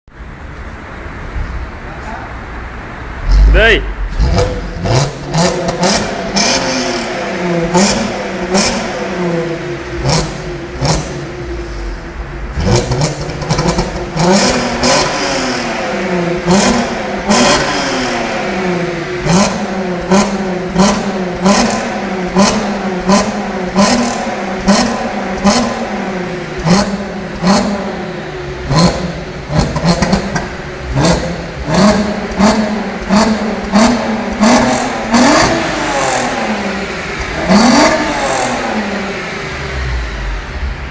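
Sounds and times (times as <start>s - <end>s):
car engine revving: 0.2s - 40.9s
exhaust cracks: 3.0s - 40.9s.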